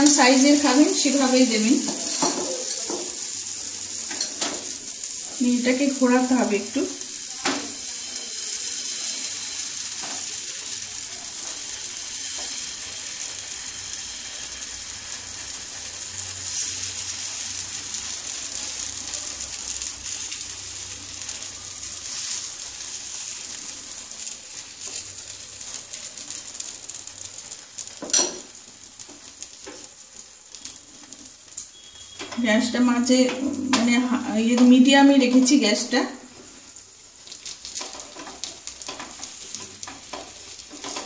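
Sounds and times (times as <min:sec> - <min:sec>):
batter sizzling in oil: 0:00.0 - 0:41.0.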